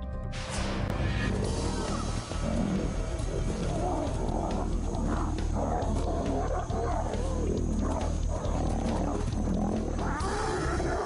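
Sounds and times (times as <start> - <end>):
low music bed: 0.0 - 11.0
lions growling and snarling: 1.1 - 11.0.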